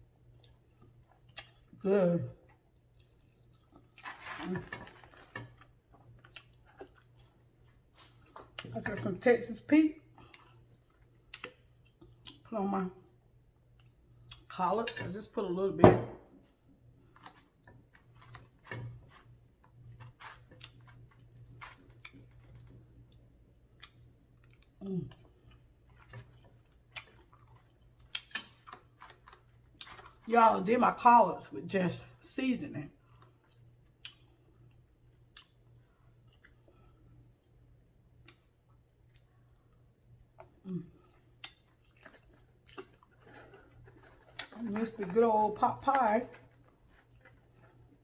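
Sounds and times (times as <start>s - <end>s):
low steady hum: 0.0s - 48.0s
person chewing quietly: 0.2s - 8.8s, 10.0s - 12.5s, 13.4s - 15.0s, 16.6s - 30.3s, 33.0s - 48.0s.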